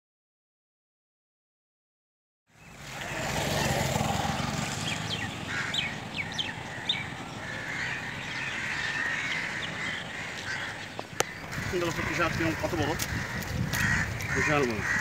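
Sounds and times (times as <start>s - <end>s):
birds chirping: 2.5s - 15.0s.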